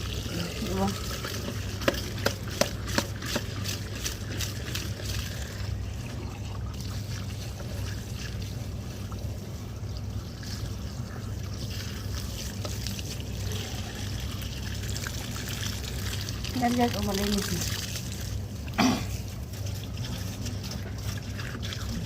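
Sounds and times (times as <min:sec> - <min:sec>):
steady low hum: 0:00.0 - 0:22.0
water trickling: 0:00.0 - 0:22.0.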